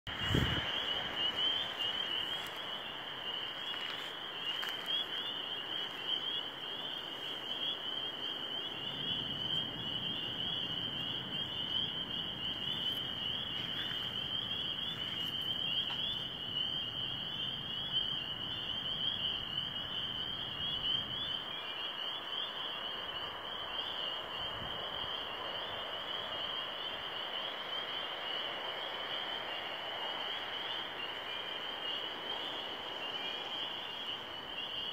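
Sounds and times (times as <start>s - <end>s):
chorus of frogs calling: 0.1s - 34.9s.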